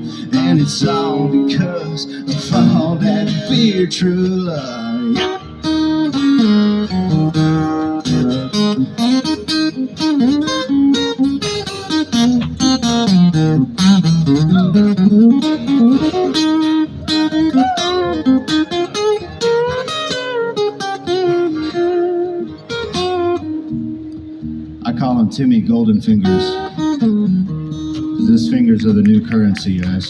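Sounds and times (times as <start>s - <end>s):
lead guitar solo: 0.0s - 24.9s, 26.1s - 30.0s
country band playing: 0.0s - 30.0s.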